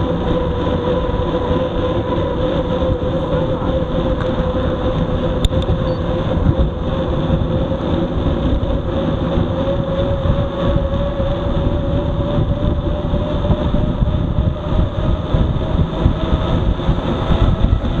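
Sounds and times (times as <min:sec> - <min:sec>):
tyres humming on asphalt: 0:00.0 - 0:18.0
wind rumble on microphone: 0:00.0 - 0:18.0.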